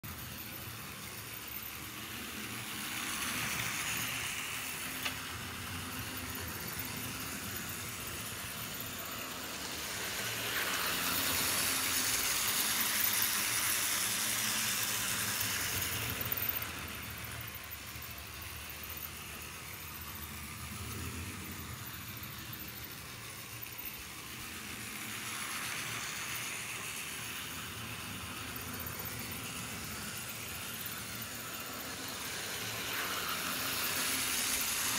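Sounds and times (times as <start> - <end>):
model train wheels rolling: 0.0 - 34.9
small electric motor whirring: 0.1 - 34.9.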